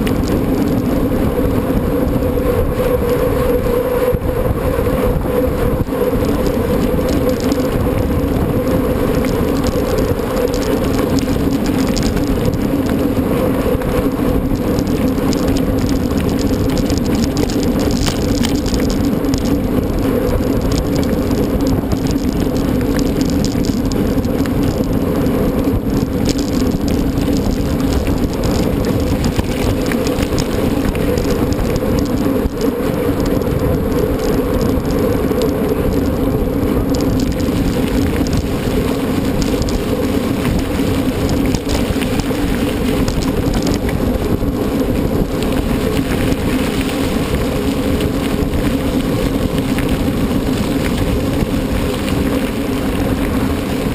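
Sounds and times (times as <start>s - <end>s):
mountain bike rolling over rough ground: 0.0s - 53.9s.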